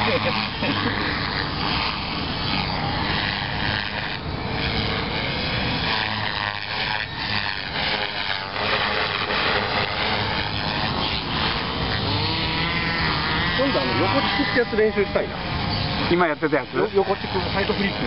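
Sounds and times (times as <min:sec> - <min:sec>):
model helicopter motor whining: 0:00.0 - 0:18.0.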